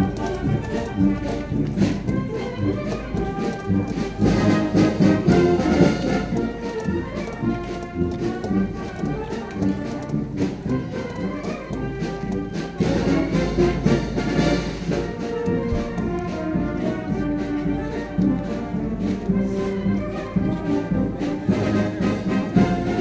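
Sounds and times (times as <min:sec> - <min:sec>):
brass band playing: 0:00.0 - 0:23.0.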